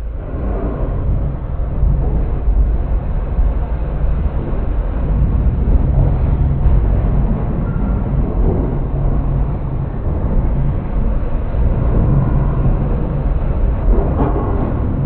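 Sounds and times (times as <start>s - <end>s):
subway train rumbling past: 0.0s - 15.0s.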